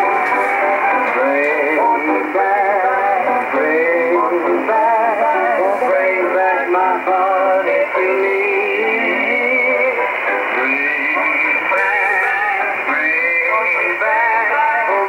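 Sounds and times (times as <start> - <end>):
song over shortwave radio: 0.0 - 15.0.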